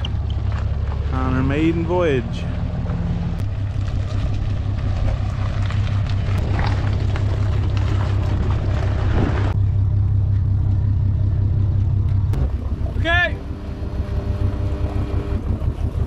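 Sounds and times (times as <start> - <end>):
low engine rumble: 0.0 - 16.0
wind and mechanical noise: 0.0 - 16.0.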